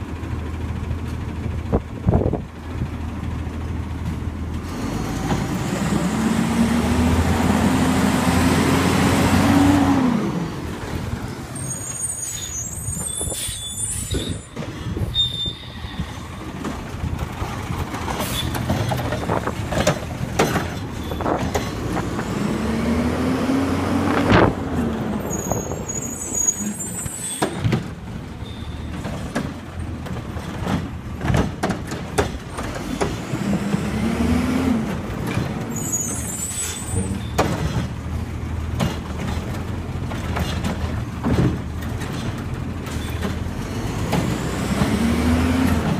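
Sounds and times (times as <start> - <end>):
garbage truck engine whining: 1.6 - 45.9.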